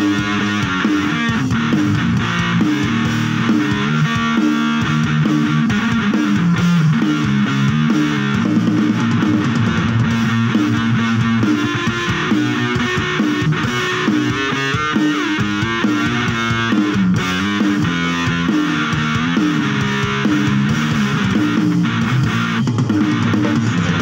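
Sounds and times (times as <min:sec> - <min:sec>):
electric guitar rock riff: 0:00.0 - 0:24.0.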